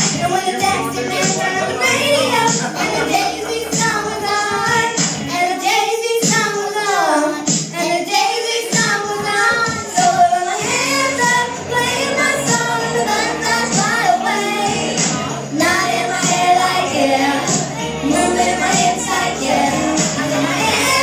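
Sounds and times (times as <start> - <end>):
girls singing into microphones: 0.0 - 21.0
karaoke backing track: 0.0 - 21.0.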